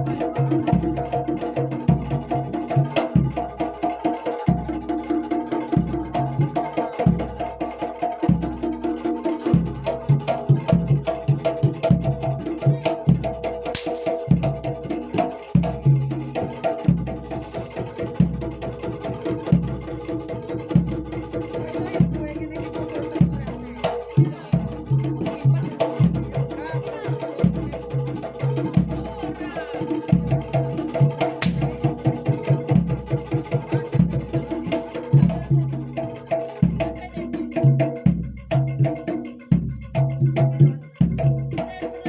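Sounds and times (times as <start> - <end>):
bass drum beat: 0.0 - 42.0
hand-drum strokes: 0.0 - 42.0.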